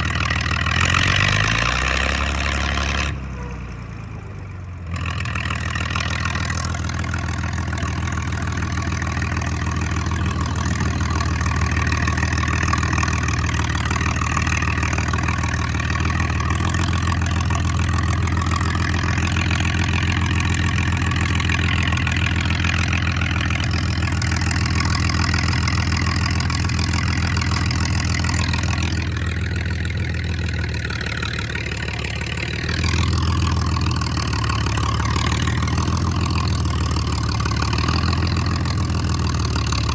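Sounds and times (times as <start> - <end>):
loud tractor engine running: 0.0 - 39.9.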